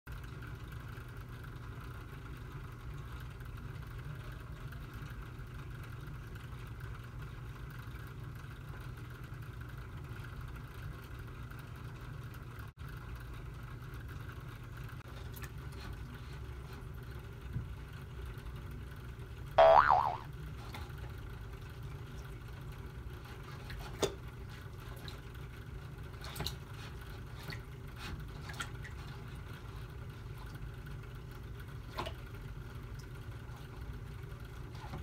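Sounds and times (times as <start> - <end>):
aquarium filter humming: 0.3 - 34.8.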